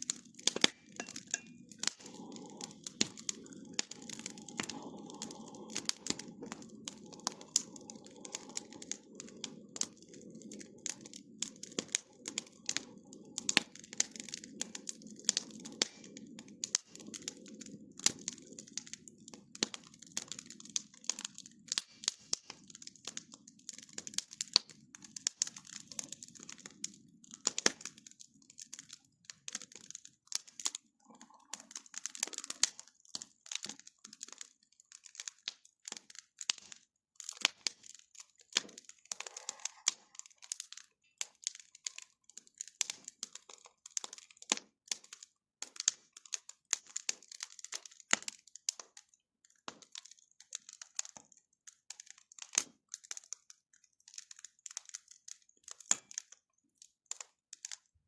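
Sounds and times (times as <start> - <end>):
bonfire crackling and popping: 0.0 - 58.0.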